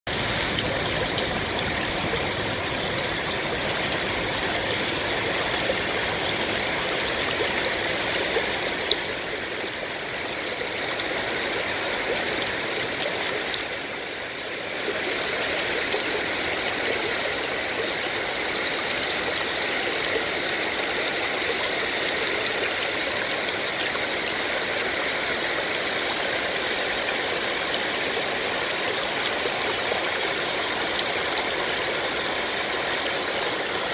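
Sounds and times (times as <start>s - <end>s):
water pouring over a dam: 0.1s - 33.9s.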